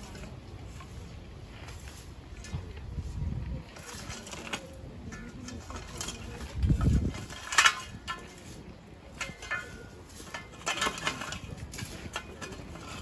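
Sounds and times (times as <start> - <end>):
shovels scraping soil: 0.0 - 13.0.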